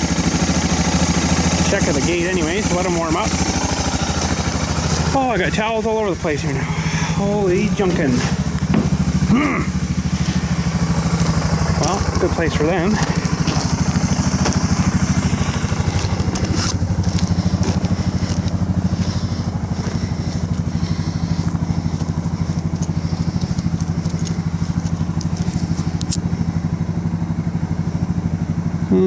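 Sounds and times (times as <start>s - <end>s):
motorcycle engines idling: 0.0s - 29.0s.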